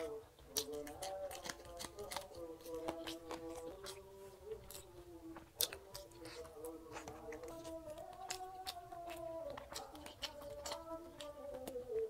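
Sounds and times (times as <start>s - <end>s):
wet chewing and mouth smacks: 0.0s - 12.0s.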